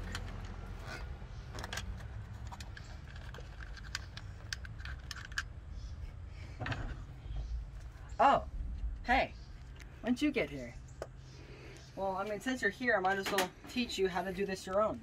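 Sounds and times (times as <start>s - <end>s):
faint low rumble: 0.0s - 12.9s.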